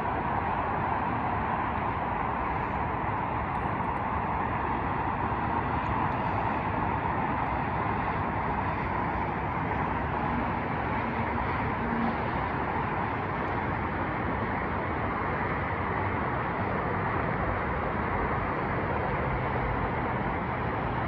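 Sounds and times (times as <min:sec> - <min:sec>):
freeway traffic drone: 0:00.0 - 0:21.0.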